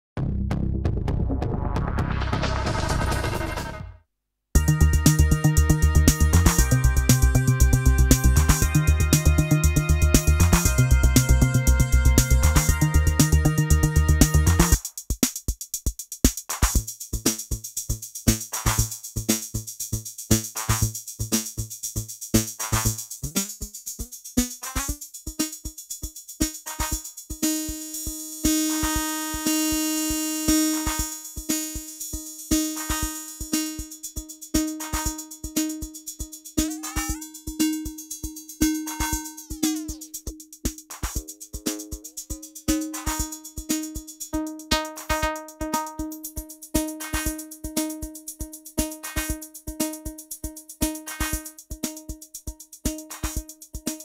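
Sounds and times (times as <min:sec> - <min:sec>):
drum loop with ringing pitched tones: 0:04.6 - 0:54.0.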